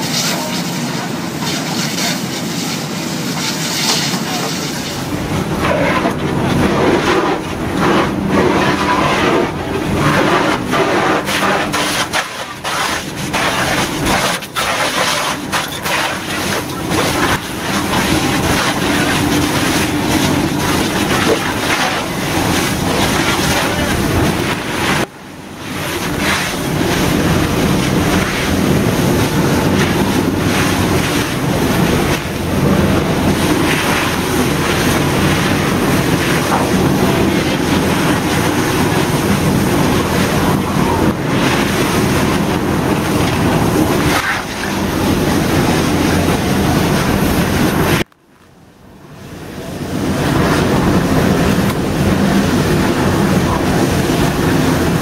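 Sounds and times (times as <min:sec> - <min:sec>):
hose water spraying on car: 0:00.0 - 0:48.1.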